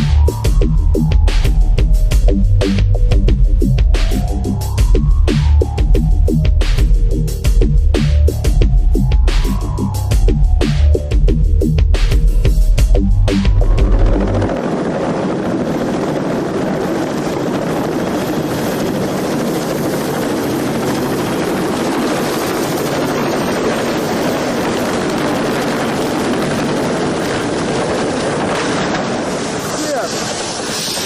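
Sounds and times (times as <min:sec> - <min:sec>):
helicopter rotor and engine: 0:00.1 - 0:31.0.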